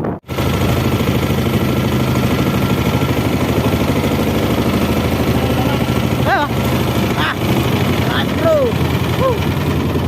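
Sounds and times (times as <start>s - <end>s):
boat engine puttering: 0.2s - 10.0s.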